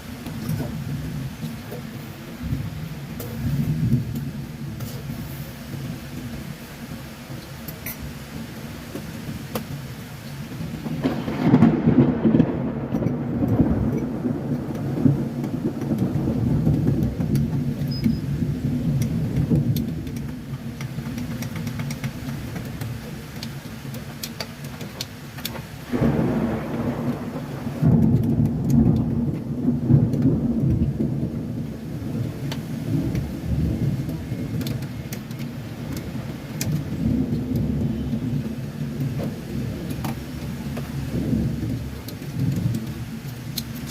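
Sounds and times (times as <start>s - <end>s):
thunder rumbling: 0.0s - 6.7s, 10.5s - 23.3s, 25.8s - 43.9s
rain pattering: 0.0s - 43.9s.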